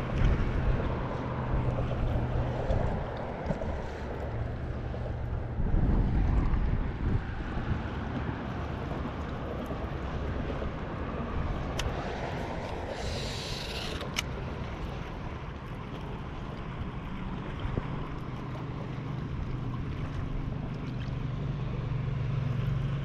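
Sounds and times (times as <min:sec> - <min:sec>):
wind buffeting microphone: 0:00.0 - 0:20.7
boat motor humming: 0:00.0 - 0:23.0
rush of wind and water: 0:00.0 - 0:23.0.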